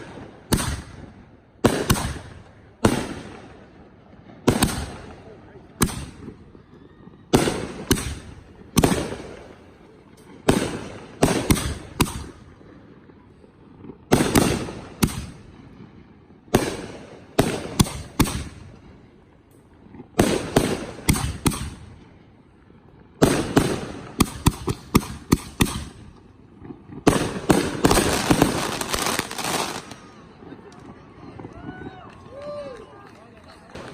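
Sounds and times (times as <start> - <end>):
fireworks bangs with rumbling echo: 0.0 - 32.5.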